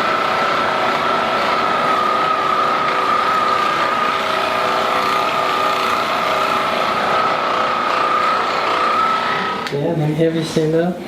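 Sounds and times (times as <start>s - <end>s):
massage gun motor whine: 0.0s - 10.7s.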